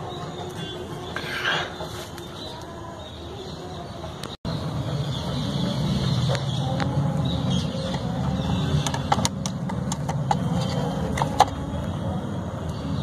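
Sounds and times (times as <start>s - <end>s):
low engine hum: 2.2s - 13.0s.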